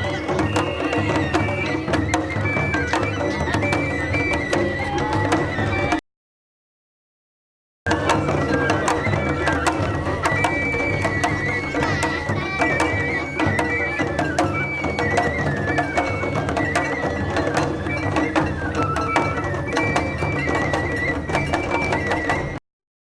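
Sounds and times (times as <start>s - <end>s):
bamboo flute melody: 0.0s - 6.0s, 7.9s - 22.6s
fast drum and percussion strokes: 0.0s - 6.0s, 7.9s - 22.6s.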